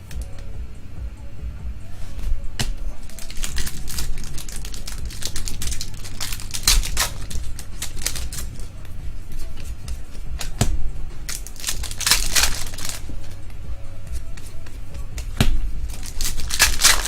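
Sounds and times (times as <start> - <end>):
low steady hum: 0.0 - 17.0
cards flicking by hand: 2.1 - 17.0.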